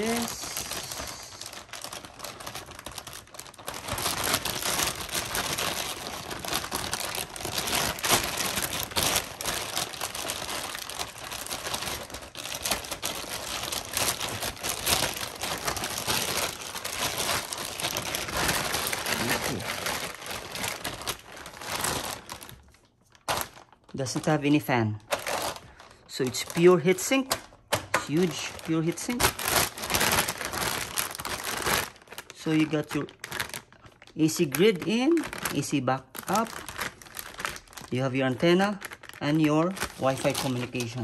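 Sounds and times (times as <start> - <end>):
plastic bag crinkling: 0.0 - 41.0.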